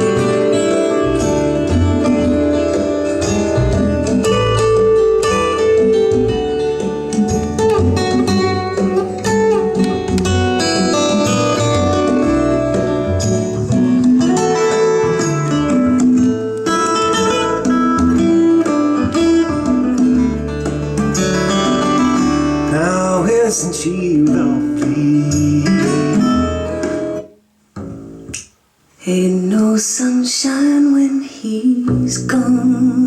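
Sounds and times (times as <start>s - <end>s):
acoustic guitar music over loudspeakers: 0.0s - 33.0s.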